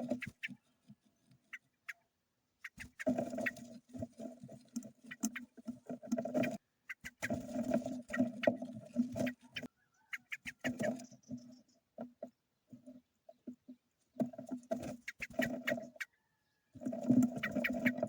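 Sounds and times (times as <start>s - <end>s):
birds calling: 0.0s - 3.7s, 6.2s - 13.6s, 14.2s - 18.0s
small clicks and scratches: 2.6s - 18.0s.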